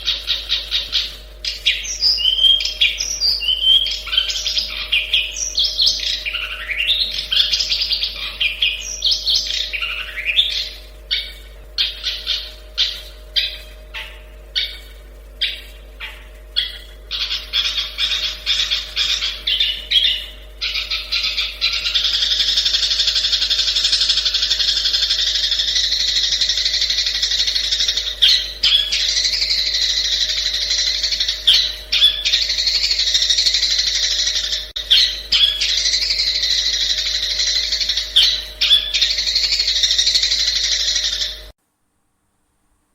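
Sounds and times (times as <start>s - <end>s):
shrike chattering song: 0.0s - 41.5s
sharp bird calls: 0.0s - 41.6s.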